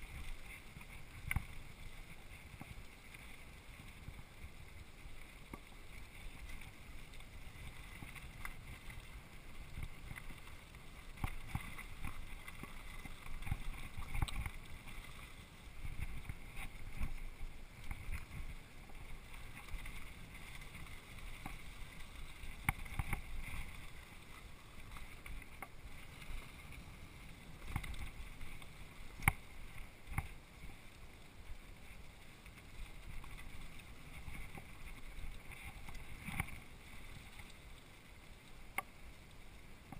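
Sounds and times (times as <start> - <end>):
bike tyres rumbling on dirt trail: 0.0 - 39.0.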